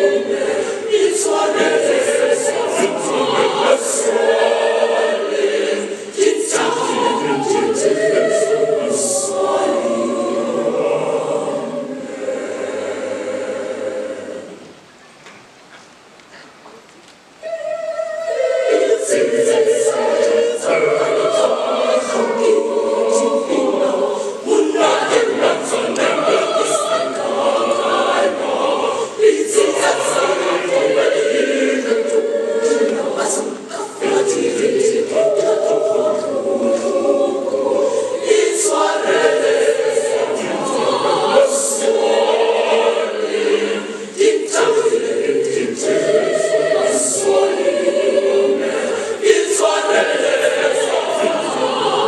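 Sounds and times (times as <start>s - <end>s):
children's choir singing unaccompanied: 0.0s - 16.1s, 17.2s - 52.0s.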